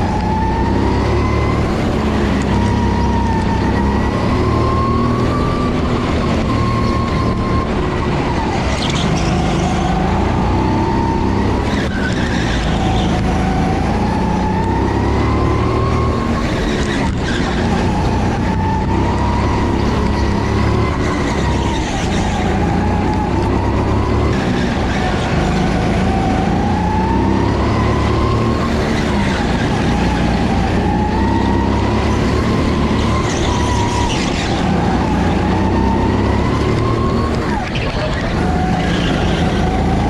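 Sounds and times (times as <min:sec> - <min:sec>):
vehicle engine and drivetrain whine: 0:00.0 - 0:40.0.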